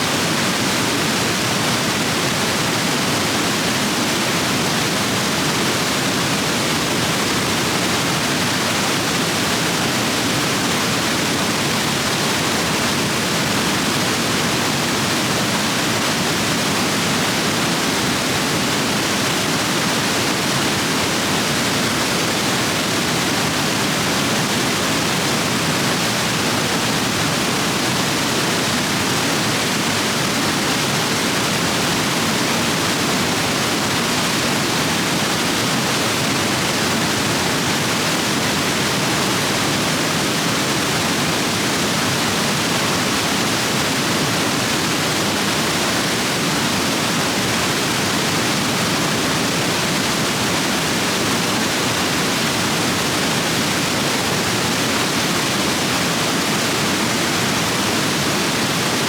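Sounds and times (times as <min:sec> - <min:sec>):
stream rapids rushing over rocks: 0:00.0 - 0:59.0.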